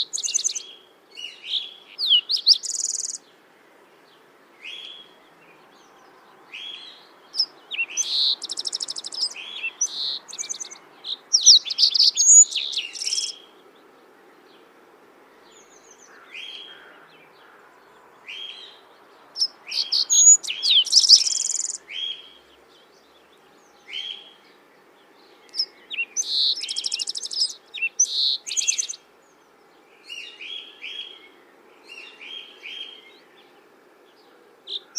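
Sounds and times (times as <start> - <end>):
songbird chirping and trilling: 0.0 - 14.7, 15.3 - 34.9.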